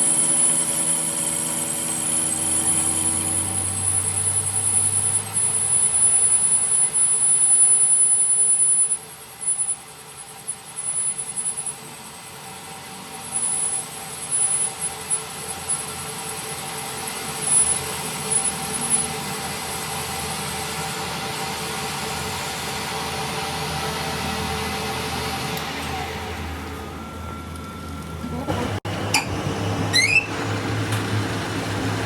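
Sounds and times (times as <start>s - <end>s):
workshop machine humming and whining: 0.0s - 32.0s.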